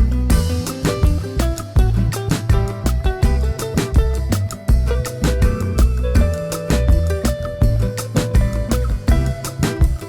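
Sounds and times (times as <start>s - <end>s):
music with bass guitar and drums: 0.0s - 10.0s.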